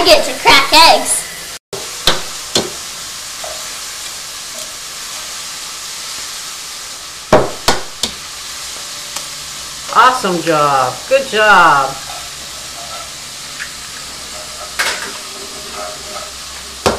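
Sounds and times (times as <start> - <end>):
sausage sizzling in a pan: 0.0 - 16.9.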